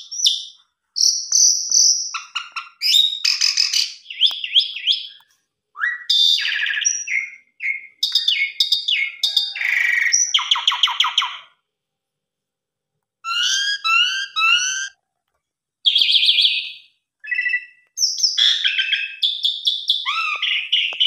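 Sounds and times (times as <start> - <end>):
starling singing: 0.0 - 5.2, 5.8 - 11.5, 13.2 - 15.0, 15.9 - 21.0.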